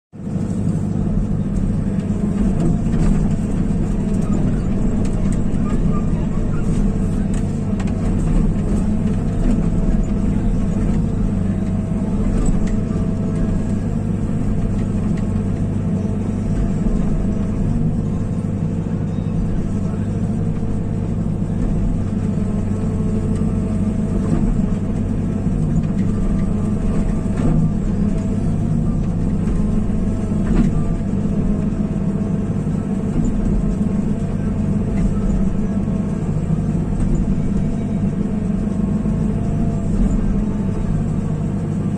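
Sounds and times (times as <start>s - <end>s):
diesel engine under load: 0.1s - 41.9s.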